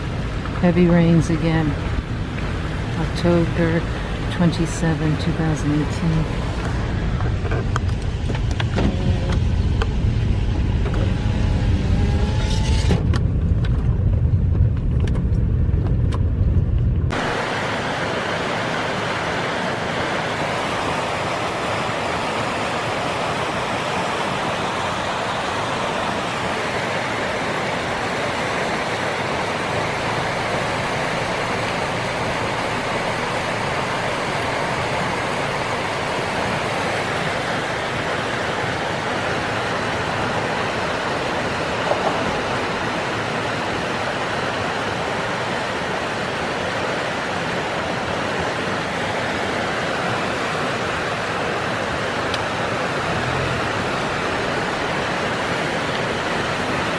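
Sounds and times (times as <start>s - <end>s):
creek rushing: 0.0s - 12.7s, 17.1s - 56.9s
car engine rumble: 0.0s - 56.9s.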